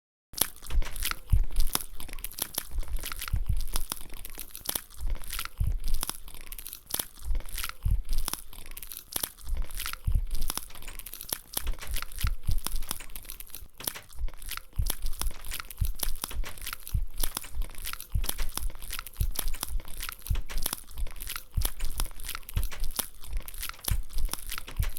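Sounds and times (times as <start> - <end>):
crunchy food chewing: 0.4 - 24.9
snack packet crinkling: 0.4 - 24.9.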